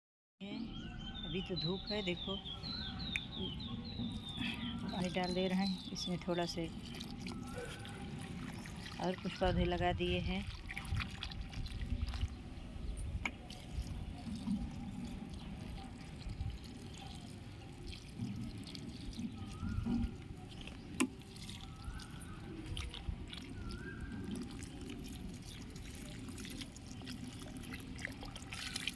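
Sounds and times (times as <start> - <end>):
water trickling and dripping: 2.0 - 28.9.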